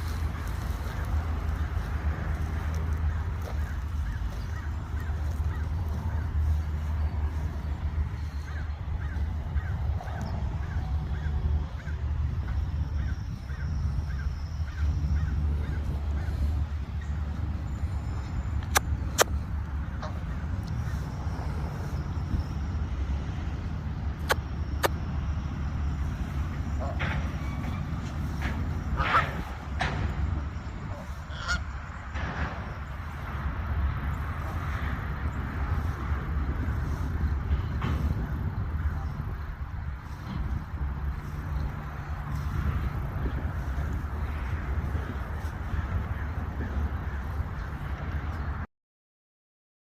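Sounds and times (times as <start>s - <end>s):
birds calling: 0.0s - 48.7s
steady low rumble: 0.0s - 48.7s.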